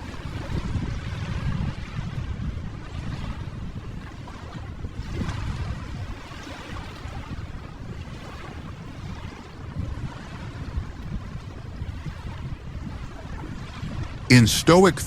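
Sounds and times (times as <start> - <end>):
ocean waves: 0.0 - 15.0.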